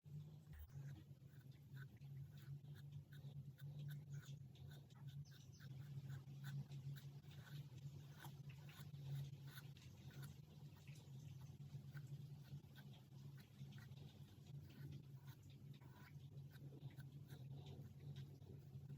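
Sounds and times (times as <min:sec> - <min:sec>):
steady low hum: 0:00.1 - 0:18.9
charcoal scratching on paper: 0:00.5 - 0:18.9.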